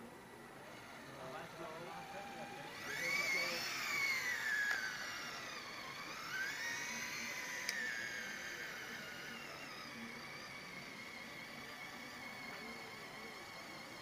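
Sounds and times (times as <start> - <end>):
toy truck motor whining: 0.0 - 14.0.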